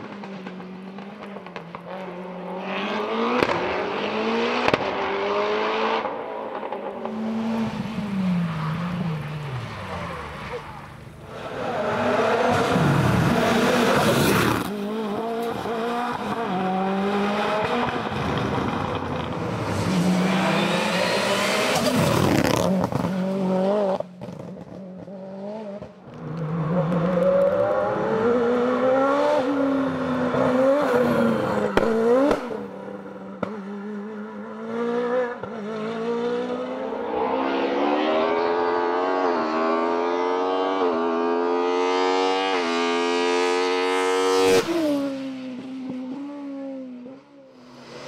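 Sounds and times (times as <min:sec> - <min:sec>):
race car engines at full throttle: 0:00.0 - 0:48.0.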